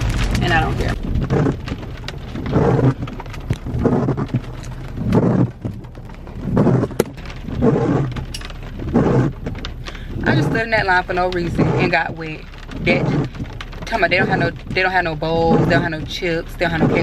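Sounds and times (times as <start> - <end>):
low steady rumble: 0.0 - 17.0
rain: 0.0 - 17.0
windshield wipers swishing: 0.0 - 17.0.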